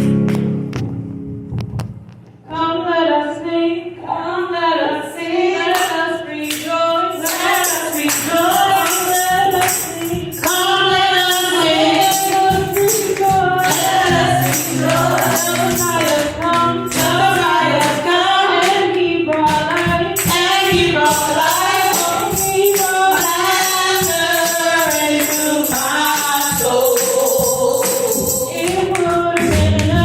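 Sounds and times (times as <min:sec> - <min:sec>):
voices singing over music: 0:04.3 - 0:30.0
tambourine in steady rhythm: 0:05.7 - 0:30.0.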